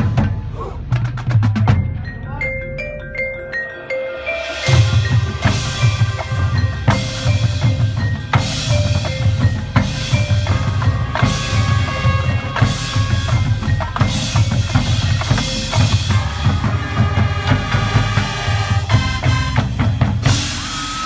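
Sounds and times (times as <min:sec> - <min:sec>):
marching band drumline: 0:00.0 - 0:02.1, 0:04.7 - 0:21.0.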